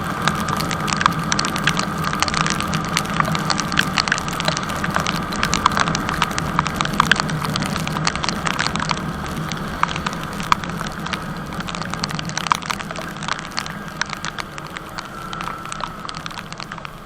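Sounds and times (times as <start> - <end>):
sharp ticks and cracks: 0.0 - 17.0
wind noise: 0.0 - 17.0.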